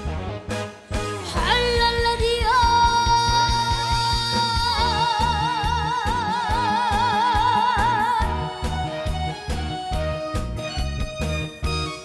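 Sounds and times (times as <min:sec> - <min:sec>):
band backing track: 0:00.0 - 0:12.0.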